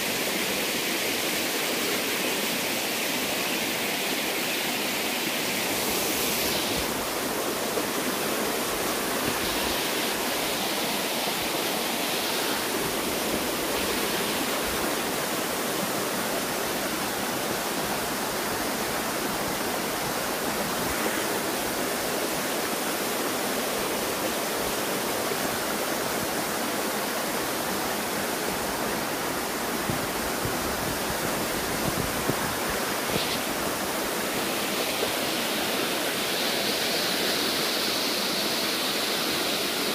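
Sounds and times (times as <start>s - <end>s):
waterfall splashing over rocks: 0.0s - 39.9s.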